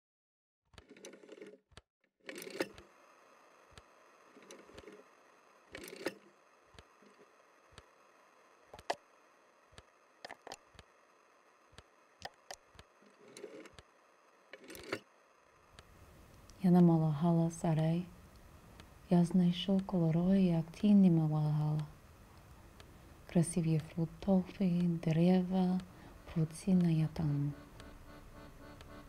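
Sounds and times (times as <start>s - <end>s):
low steady hiss: 2.8s - 13.1s, 13.9s - 29.0s.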